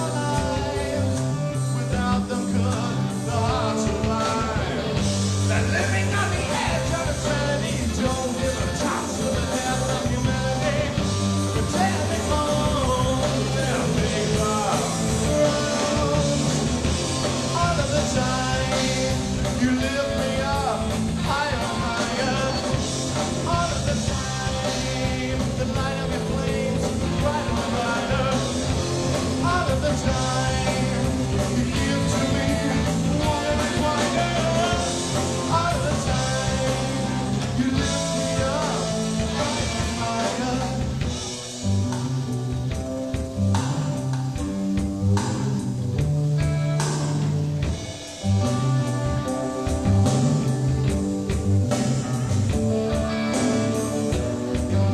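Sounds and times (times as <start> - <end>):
bending lead guitar melody: 0.0 - 54.9
live rock band playing: 0.0 - 54.9.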